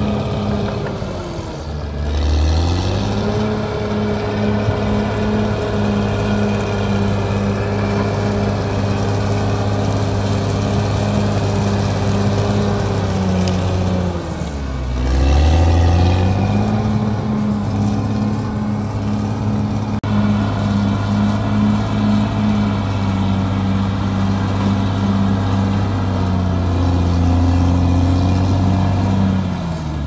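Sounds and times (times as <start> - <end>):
blade pushing soil: 0.0 - 30.0
bulldozer diesel engine running: 0.0 - 30.0.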